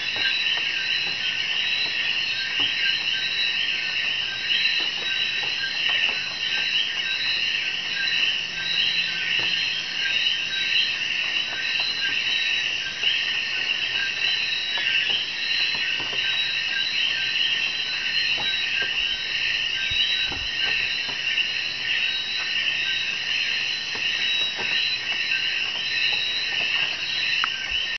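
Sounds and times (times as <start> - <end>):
frogs and insects chirping: 0.0 - 27.9.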